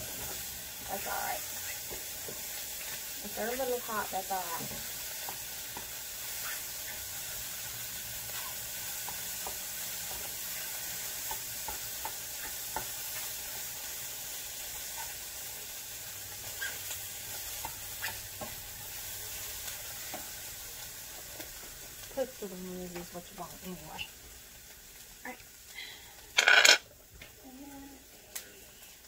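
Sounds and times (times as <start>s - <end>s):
hot dogs sizzling in a pan: 0.0s - 29.0s.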